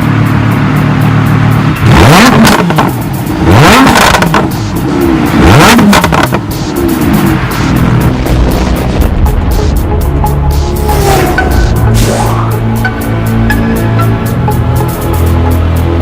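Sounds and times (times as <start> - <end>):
background music with beat: 0.0 - 16.0
car engine revving: 0.0 - 16.0.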